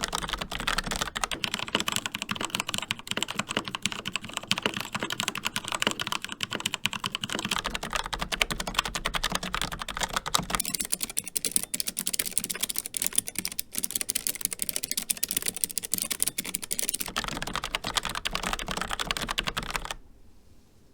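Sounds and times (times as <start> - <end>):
clicky low-profile keyboard typing: 0.0 - 20.0
fast typing on mechanical keyboard: 0.0 - 20.0.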